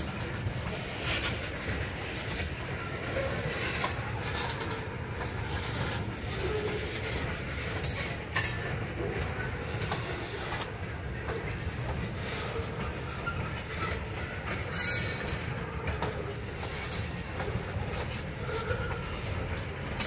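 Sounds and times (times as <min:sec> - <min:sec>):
train wheels rumbling on rails: 0:00.0 - 0:20.0
wheels clicking over rail joints: 0:00.0 - 0:20.0.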